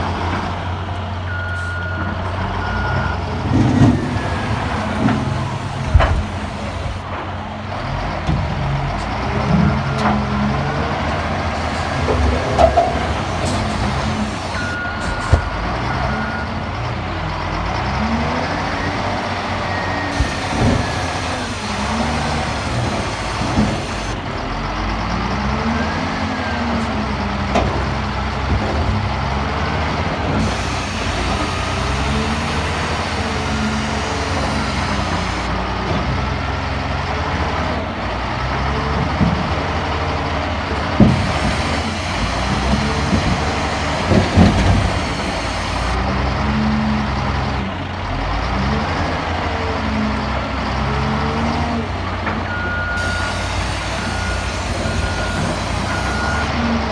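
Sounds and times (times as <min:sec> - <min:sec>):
diesel engines revving: 0:00.0 - 0:56.9.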